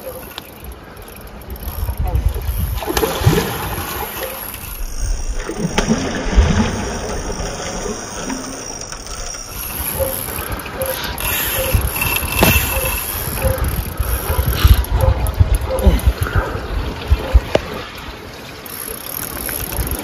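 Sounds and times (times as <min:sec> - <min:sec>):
water splashing: 0:00.8 - 0:20.0.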